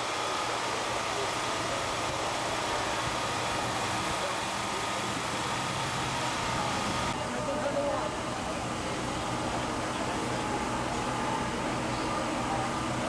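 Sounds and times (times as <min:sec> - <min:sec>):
ambulance engines idling: 0:00.0 - 0:13.0
crowd voices: 0:00.0 - 0:13.0.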